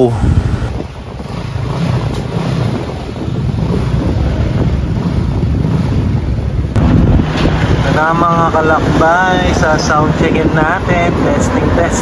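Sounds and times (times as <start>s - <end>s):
motorcycle exhaust rumble: 0.0s - 12.0s.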